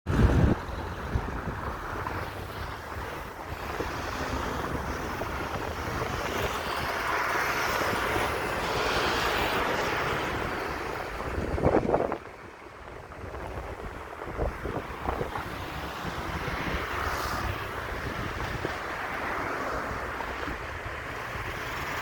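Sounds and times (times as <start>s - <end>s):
sea waves washing: 0.1s - 22.0s
wind on microphone: 0.1s - 22.0s.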